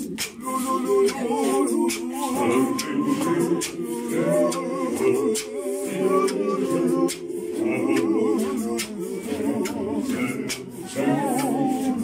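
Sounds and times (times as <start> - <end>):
men's choir singing a cappella: 0.0 - 12.0.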